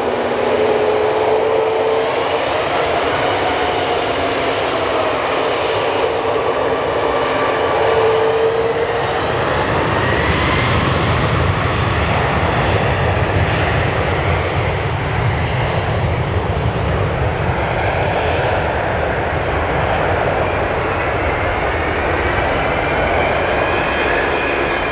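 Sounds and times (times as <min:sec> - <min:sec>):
jet engines roaring: 0:00.0 - 0:24.9.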